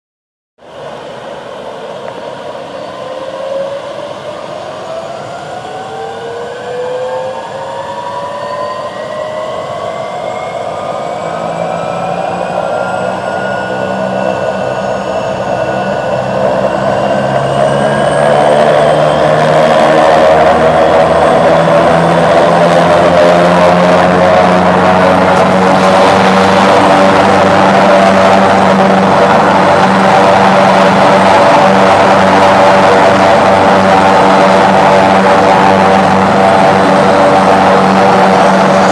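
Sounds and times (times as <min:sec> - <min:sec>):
low helicopter rotor drone: 0:00.6 - 0:38.9
turbine whine rising in pitch: 0:00.6 - 0:38.9.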